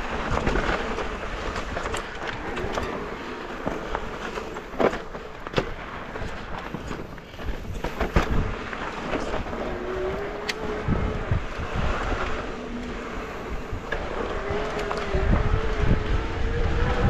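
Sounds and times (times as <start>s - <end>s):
bike knocking and rattling on rocks: 0.0s - 17.0s
bike tyres rumbling on dirt: 0.0s - 17.0s.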